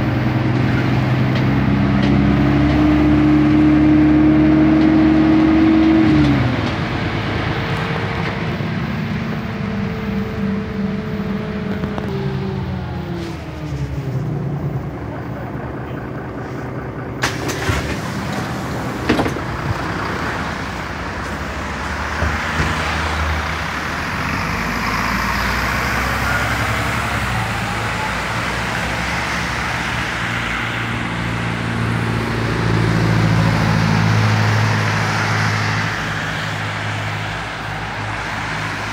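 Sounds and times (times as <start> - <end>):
bus engine accelerating: 0.0 - 38.9.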